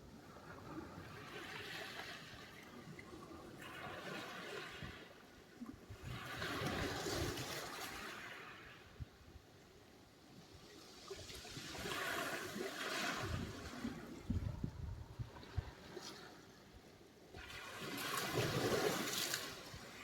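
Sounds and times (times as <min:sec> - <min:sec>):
small waves washing ashore: 0:00.1 - 0:20.0.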